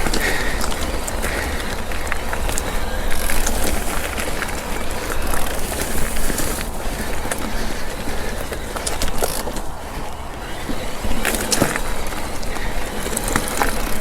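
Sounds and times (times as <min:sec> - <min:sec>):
bike clicks and rattles: 0:00.0 - 0:14.0
bike tyres rolling on dirt: 0:00.0 - 0:14.0.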